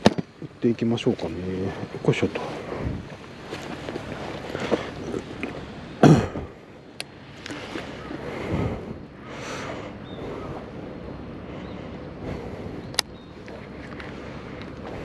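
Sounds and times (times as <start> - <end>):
wind on microphone: 1.8 - 6.6, 7.5 - 15.0.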